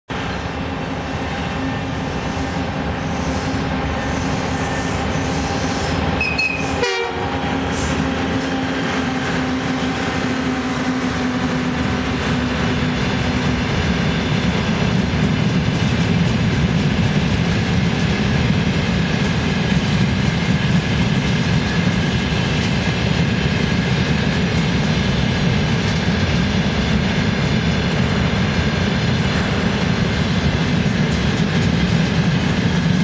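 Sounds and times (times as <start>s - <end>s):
diesel locomotive engine: 0.1s - 33.0s.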